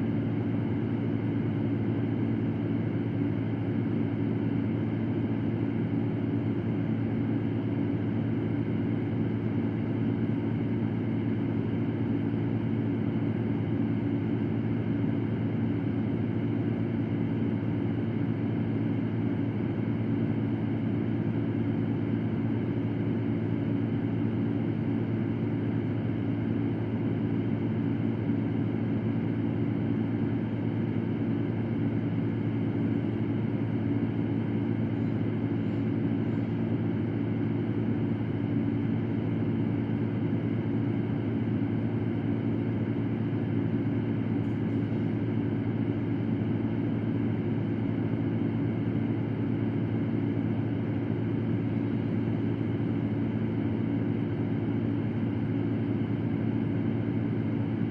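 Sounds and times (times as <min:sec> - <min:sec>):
electric fan running: 0:00.0 - 0:57.9.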